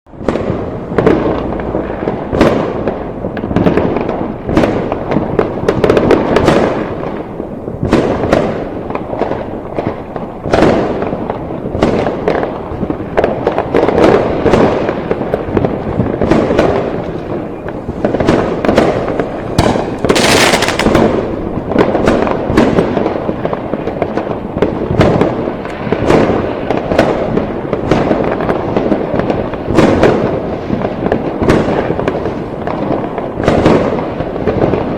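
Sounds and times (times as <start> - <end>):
fireworks crackling: 0.1 - 34.9
sharp fireworks bangs: 0.1 - 34.9.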